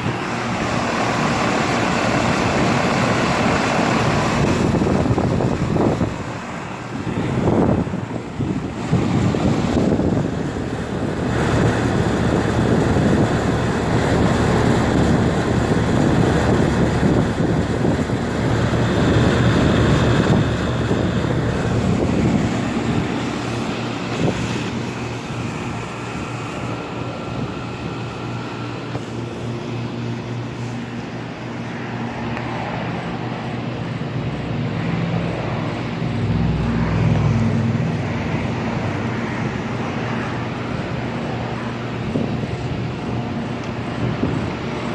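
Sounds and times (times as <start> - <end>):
air conditioner hum: 0.0 - 44.9
fan whoosh: 0.0 - 44.9.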